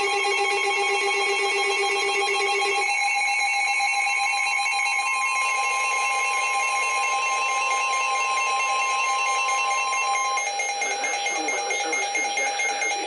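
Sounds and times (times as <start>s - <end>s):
electronic alarm tones: 0.0s - 13.0s.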